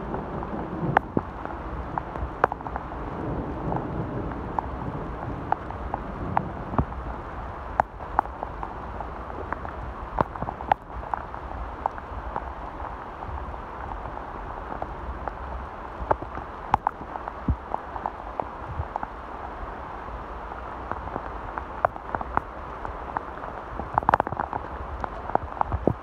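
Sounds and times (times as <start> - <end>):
steady rain falling: 0.0 - 26.0
single raindrops ticking: 0.1 - 7.1, 7.7 - 19.2, 20.8 - 26.0.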